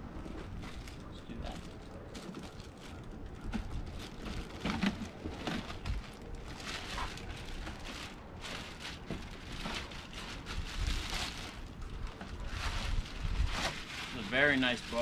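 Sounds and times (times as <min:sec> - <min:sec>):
plastic bag crinkling: 0:00.5 - 0:15.0.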